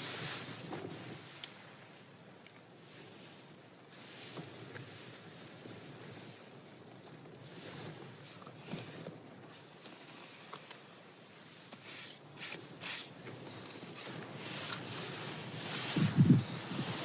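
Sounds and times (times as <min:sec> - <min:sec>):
wind gusts and rain: 0:00.0 - 0:17.0.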